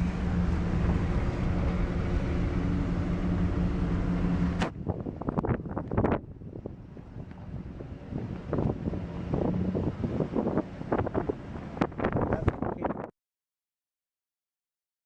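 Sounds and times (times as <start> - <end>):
vehicle engine humming: 0.0 - 12.6.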